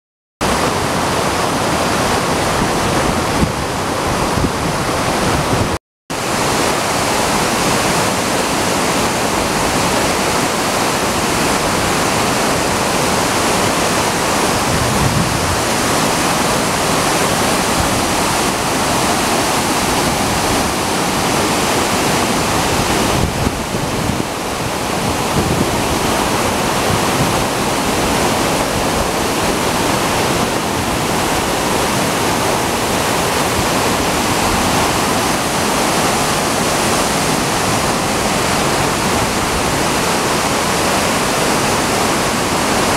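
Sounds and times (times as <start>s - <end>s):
waterfall rushing: 0.4s - 42.9s.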